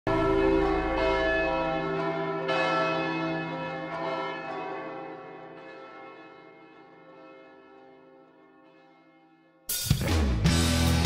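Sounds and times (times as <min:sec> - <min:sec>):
large tower bells ringing: 0:00.1 - 0:09.8.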